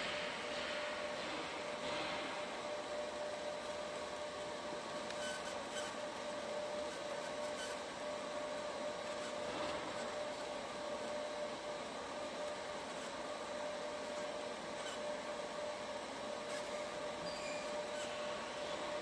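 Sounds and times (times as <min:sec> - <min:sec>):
laser marking machine humming: 0:00.0 - 0:19.0.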